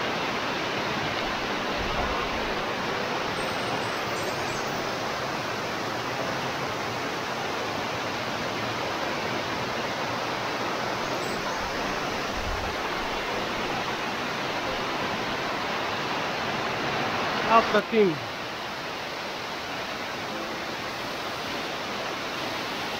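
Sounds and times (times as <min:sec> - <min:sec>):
stream cascading over rocks: 0:00.0 - 0:22.9
waterfall rushing: 0:00.0 - 0:22.9.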